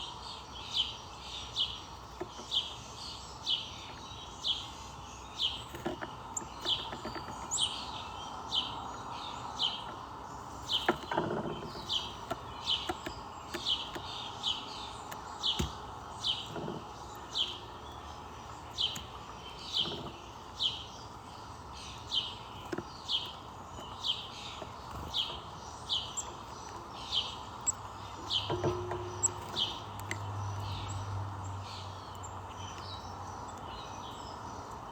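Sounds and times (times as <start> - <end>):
bird chirping: 0.0 - 34.9.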